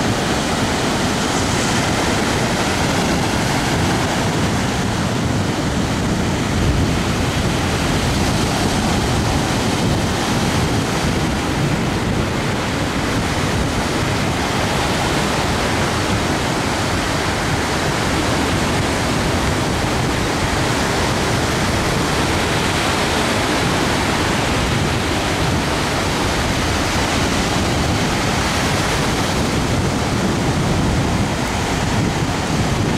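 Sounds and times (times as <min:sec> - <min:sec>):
ocean surf breaking on beach: 0:00.0 - 0:32.9.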